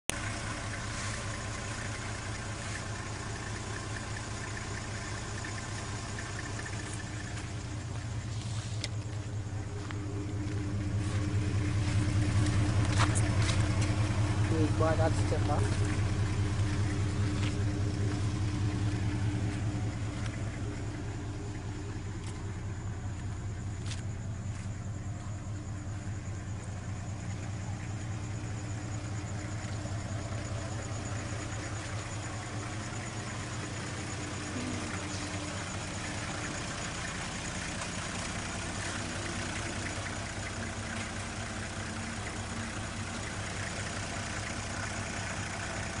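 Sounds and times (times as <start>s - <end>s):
minibus engine running: 0.0s - 46.0s.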